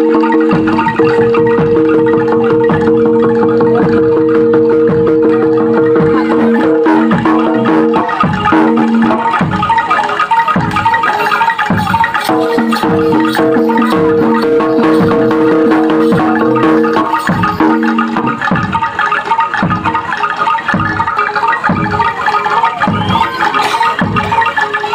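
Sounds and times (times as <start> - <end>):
ringing metallophone notes: 0.0 - 24.9.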